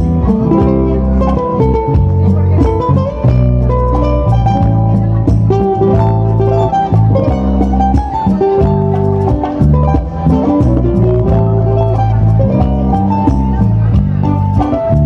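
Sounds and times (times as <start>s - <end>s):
electric bass line: 0.0s - 15.0s
requinto guitar melodic run: 0.0s - 15.0s
strummed acoustic guitar: 0.0s - 15.0s.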